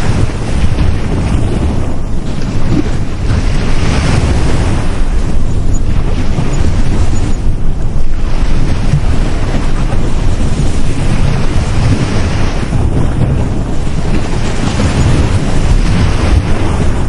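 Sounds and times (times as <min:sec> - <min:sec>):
sea waves breaking on beach: 0:00.0 - 0:17.0
wind buffeting microphone: 0:00.0 - 0:17.0.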